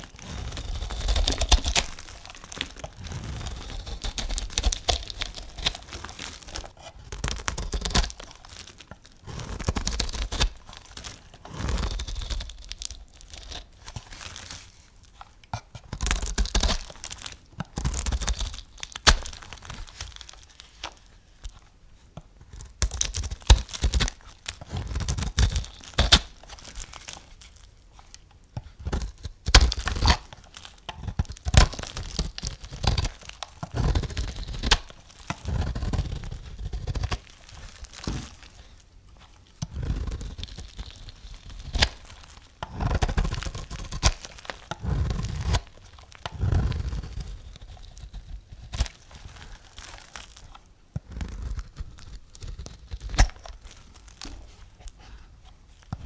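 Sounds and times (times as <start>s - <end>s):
knife scraping through soap: 0.0s - 21.1s, 22.4s - 56.0s.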